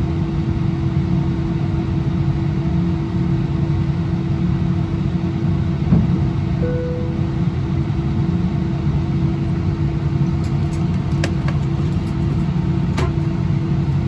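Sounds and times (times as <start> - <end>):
aircraft cabin rumble and hum: 0.0 - 14.0.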